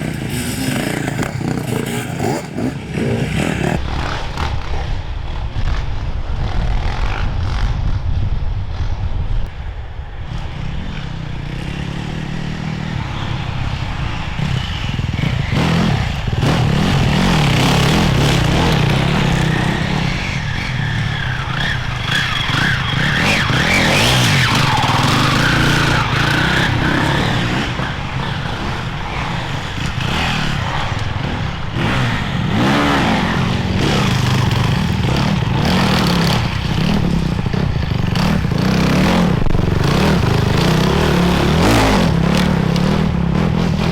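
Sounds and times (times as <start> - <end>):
motorcycle engines revving: 0.0 - 8.2, 8.8 - 43.9.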